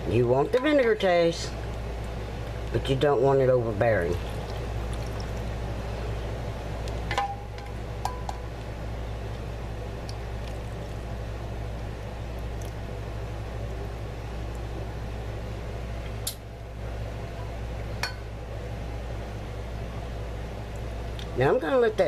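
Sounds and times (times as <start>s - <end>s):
low hum with hiss: 0.0s - 22.0s.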